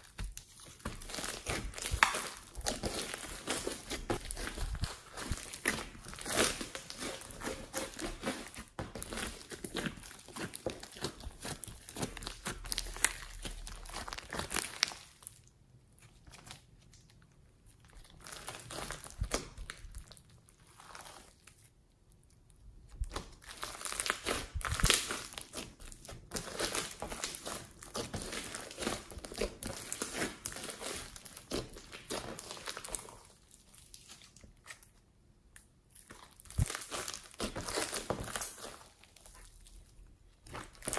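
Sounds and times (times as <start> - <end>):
sticky slime crackling and popping: 0.0 - 40.9.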